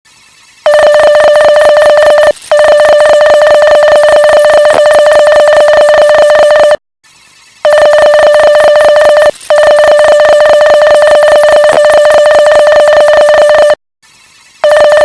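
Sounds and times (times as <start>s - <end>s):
morse code beeps: 0.7s - 6.8s, 7.7s - 13.8s, 14.6s - 15.0s.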